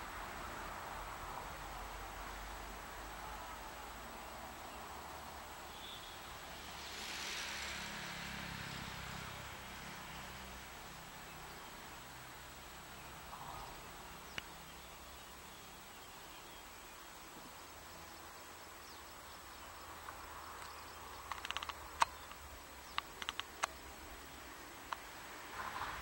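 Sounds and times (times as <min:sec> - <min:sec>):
faint outdoor background: 0:00.0 - 0:26.0.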